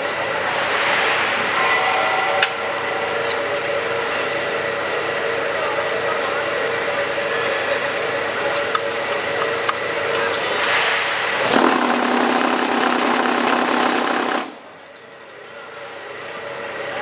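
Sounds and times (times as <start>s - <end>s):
low machine buzz: 0.0s - 17.0s
machine mechanical hum: 0.0s - 17.0s.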